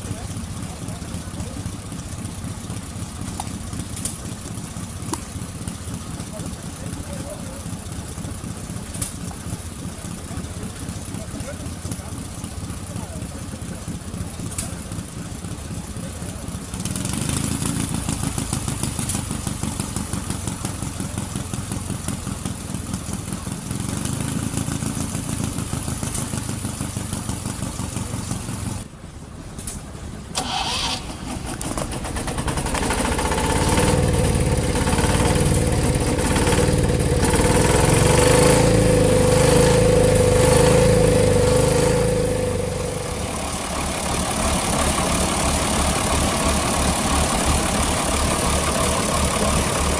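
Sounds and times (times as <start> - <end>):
louder engine: 0.0 - 28.9, 30.4 - 49.9
engines running rhythmically: 0.0 - 49.9.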